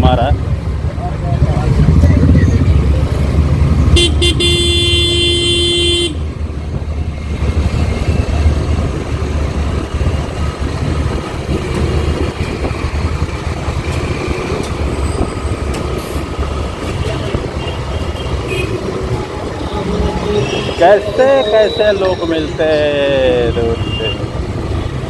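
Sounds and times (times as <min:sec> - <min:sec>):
wind and motor rumble: 0:00.0 - 0:21.2
vehicles passing: 0:00.0 - 0:25.0.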